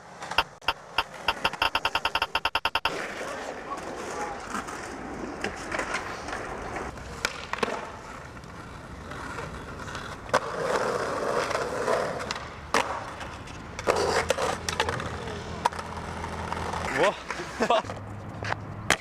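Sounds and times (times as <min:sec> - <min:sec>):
skateboard wheels rolling: 0:00.0 - 0:19.0
skateboard clacks: 0:00.1 - 0:19.0.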